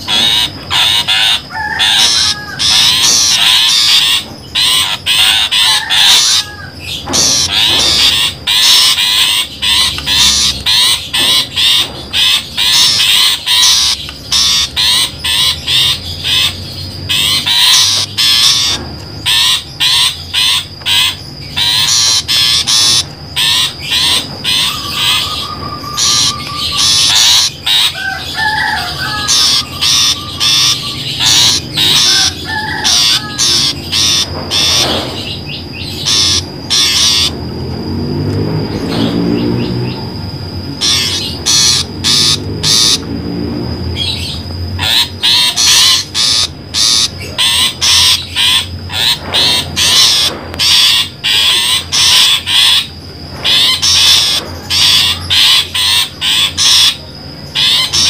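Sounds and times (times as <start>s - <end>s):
bird warbling trills: 0.0s - 37.5s, 38.6s - 43.2s, 43.8s - 58.0s
shrike harsh scolding calls: 0.0s - 58.0s.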